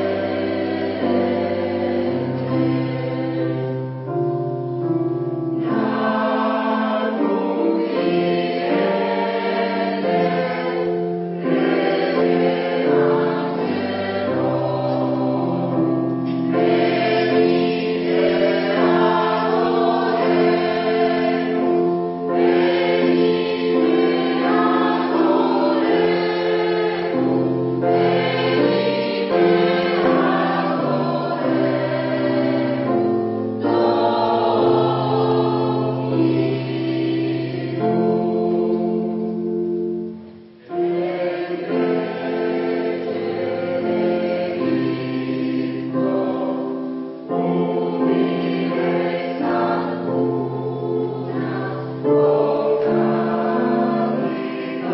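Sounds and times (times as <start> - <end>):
choir singing held chords: 0.0 - 54.9.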